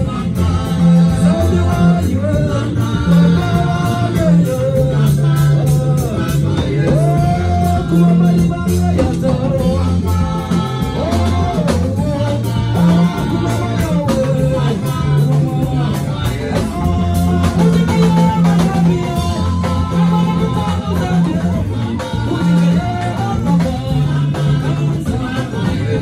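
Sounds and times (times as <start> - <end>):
deep repeating bass line: 0.0 - 26.0
drum kit: 0.0 - 26.0
keyboard: 0.0 - 26.0
several people singing worship song: 0.0 - 26.0.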